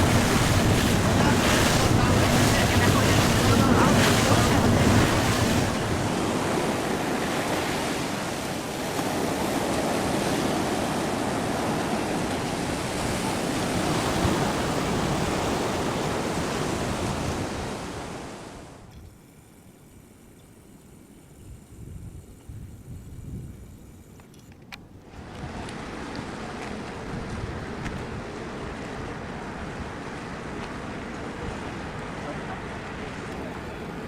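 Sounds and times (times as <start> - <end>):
wind buffeting microphone: 0.0 - 18.3, 21.4 - 24.0, 25.1 - 32.2
sea surf: 0.0 - 19.7, 25.1 - 34.0.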